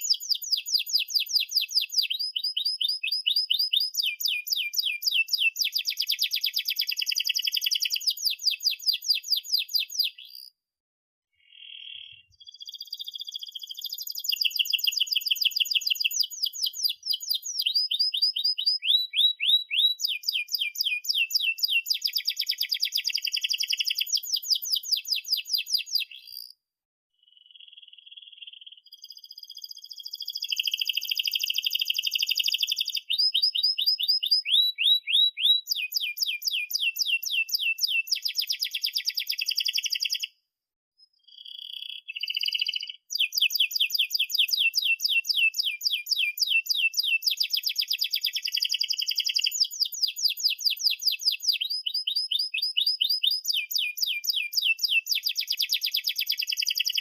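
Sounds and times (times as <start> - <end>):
canary singing trills: 0.0 - 10.5, 11.4 - 26.6, 27.2 - 40.3, 41.0 - 57.0.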